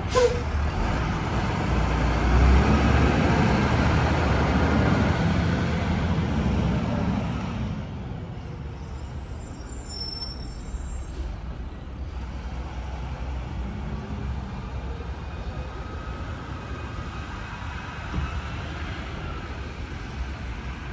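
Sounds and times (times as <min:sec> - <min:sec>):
diesel truck engine rumbling: 0:00.0 - 0:20.9.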